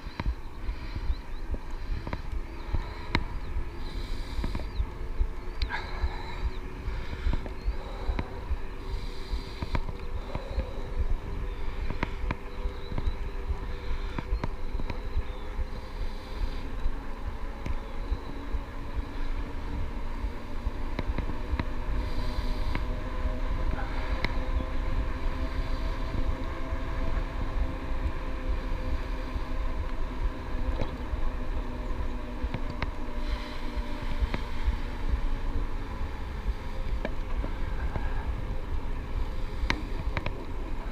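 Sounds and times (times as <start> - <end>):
electric motor whine: 0.0 - 40.9
wind rumbling on microphone: 0.0 - 40.9.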